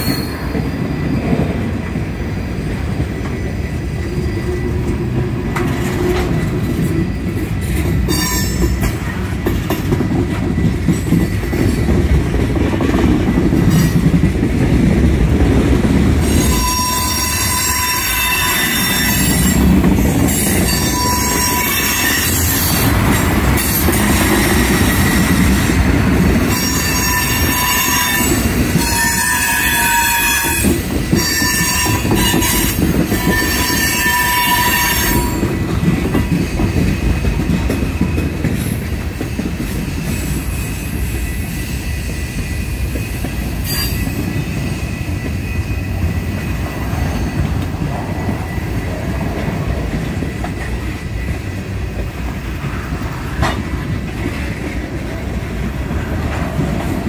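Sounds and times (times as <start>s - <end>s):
loud high-pitched train tones: 0.0s - 57.0s
wheels rumbling on rail: 0.0s - 57.0s.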